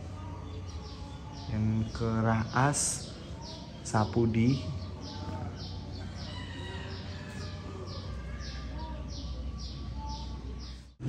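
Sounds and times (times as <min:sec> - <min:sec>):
small bird chirping: 0:00.1 - 0:11.0.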